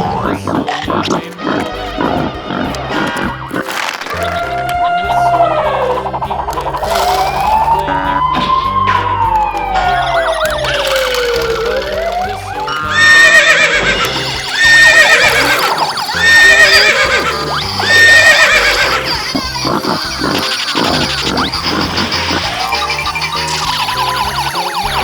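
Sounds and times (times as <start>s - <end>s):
children's background music: 0.0s - 25.0s
loud identical calls: 0.0s - 25.0s.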